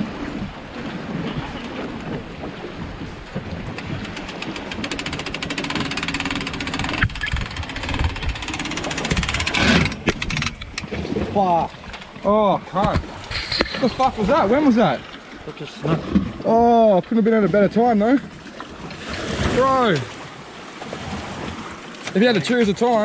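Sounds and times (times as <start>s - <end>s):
outboard motor revving: 0.0s - 16.8s, 17.6s - 23.0s.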